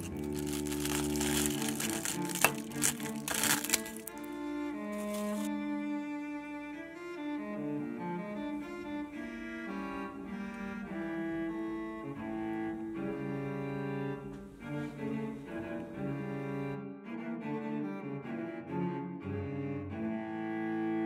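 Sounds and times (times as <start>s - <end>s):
solo cello melody: 0.0s - 21.0s.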